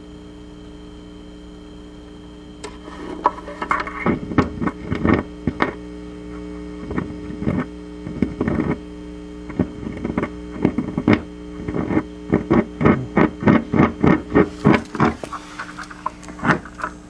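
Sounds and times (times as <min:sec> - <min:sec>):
stereo humming: 0:00.0 - 0:17.0
scratchy thumps from stylus: 0:02.7 - 0:17.0.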